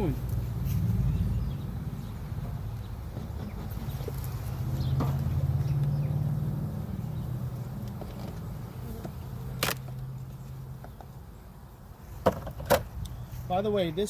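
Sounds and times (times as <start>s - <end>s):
honeybees buzzing: 0.0s - 12.2s.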